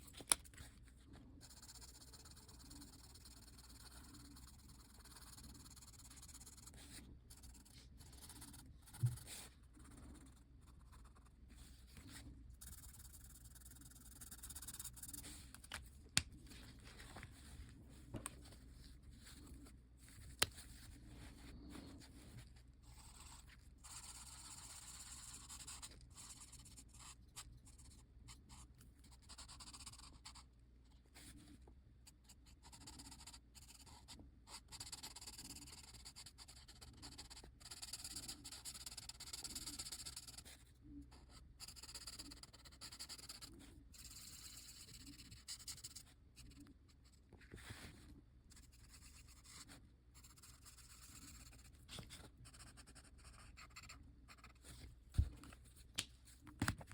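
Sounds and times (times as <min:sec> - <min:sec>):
pencil strokes scratching paper: 0:00.0 - 0:55.9.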